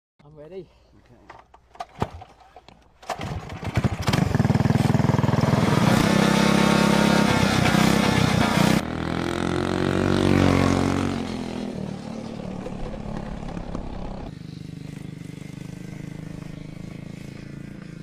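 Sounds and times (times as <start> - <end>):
motorcycle engine accelerating: 3.1 - 18.0.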